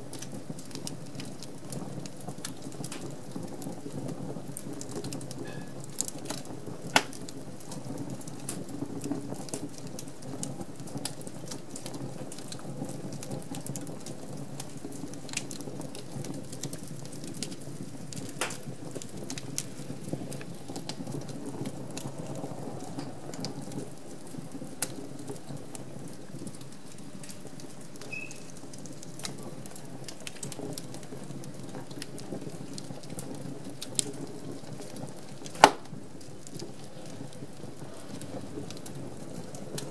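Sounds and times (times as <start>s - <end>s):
flames rushing: 0.0s - 39.9s
logs crackling and popping: 0.0s - 39.9s.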